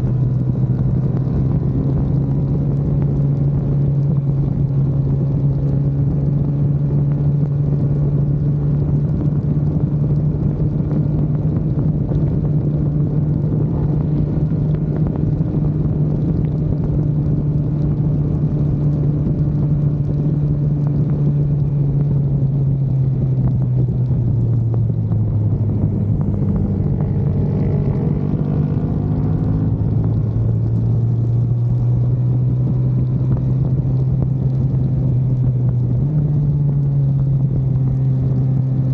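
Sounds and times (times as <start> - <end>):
race car engine: 0.0 - 38.9
road and rain rumble: 0.0 - 38.9.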